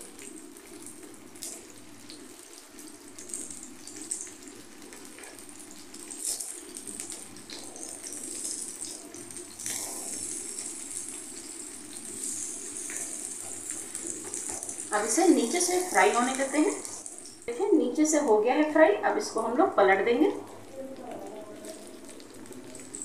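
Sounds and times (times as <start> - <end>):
hot oil sizzling in a pan: 0.0 - 23.0.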